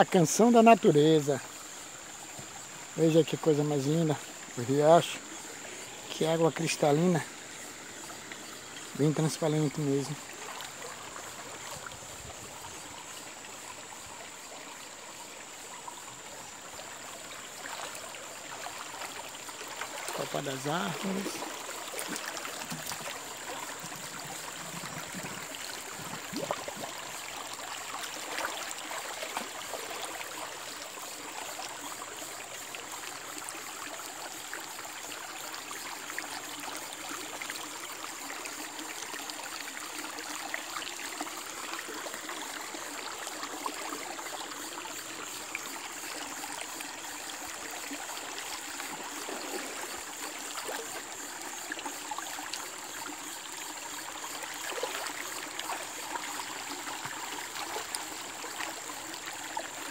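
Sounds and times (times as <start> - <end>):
stream running over stones: 0.0 - 59.9.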